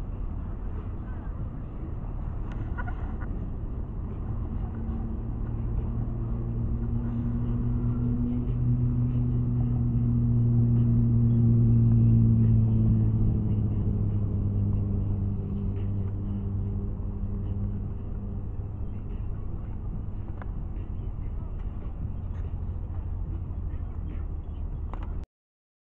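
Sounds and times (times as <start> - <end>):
road traffic hum: 0.0 - 25.2.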